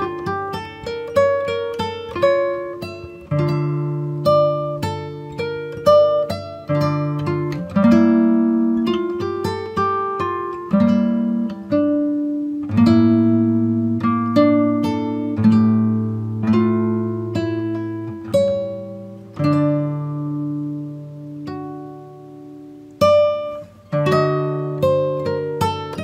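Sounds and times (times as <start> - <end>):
plucked acoustic guitar music: 0.0 - 26.0.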